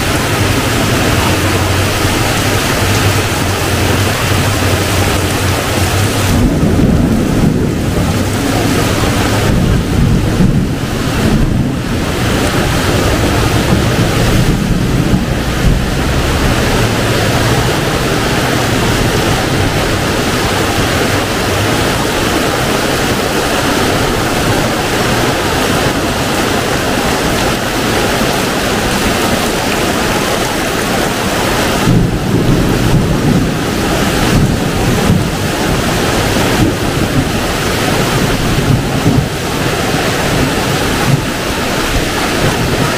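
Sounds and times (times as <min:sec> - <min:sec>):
heavy rain pouring: 0:00.0 - 0:42.9
wind buffeting microphone: 0:00.0 - 0:42.9.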